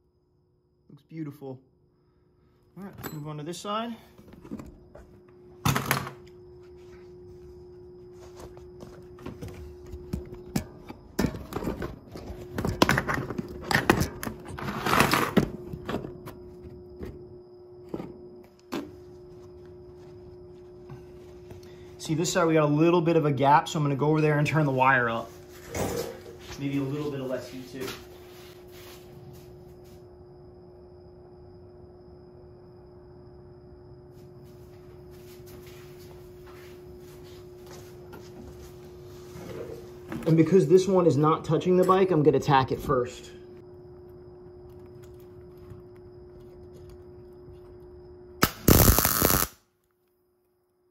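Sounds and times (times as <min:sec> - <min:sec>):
steady hum: 0:00.0 - 0:49.8.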